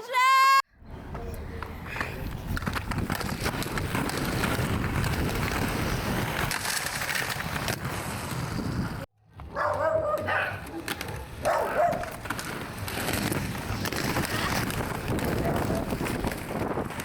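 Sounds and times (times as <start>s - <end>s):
skateboard wheels rolling on pavement: 0.8s - 17.0s.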